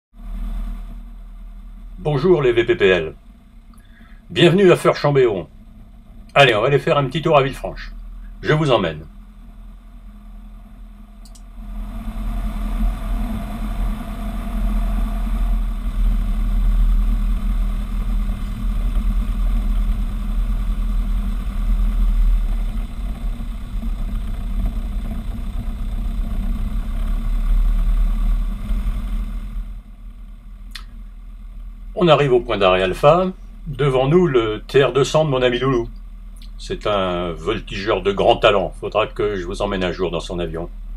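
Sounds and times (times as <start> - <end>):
propeller plane engine drone: 0.1 - 40.9.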